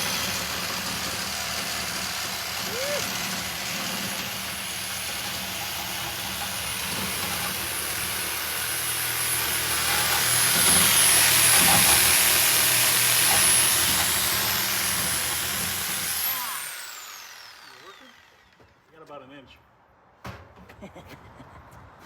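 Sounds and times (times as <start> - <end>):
power saw cutting metal: 0.0 - 18.8.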